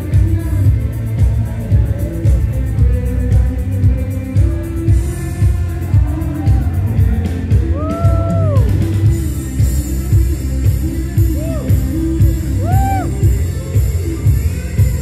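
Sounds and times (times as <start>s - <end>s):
band with steady beat: 0.0s - 15.0s.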